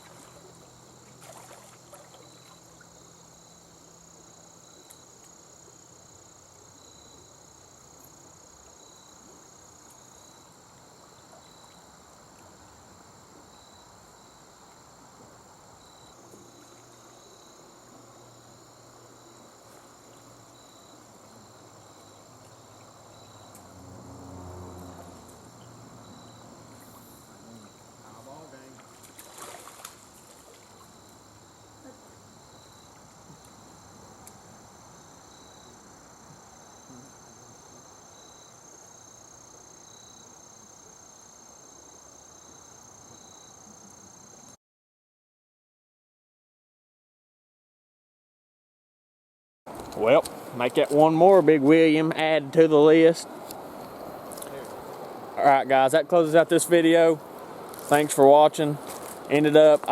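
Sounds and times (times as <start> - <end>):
crickets chirping: 0.0 - 44.6, 49.7 - 59.9.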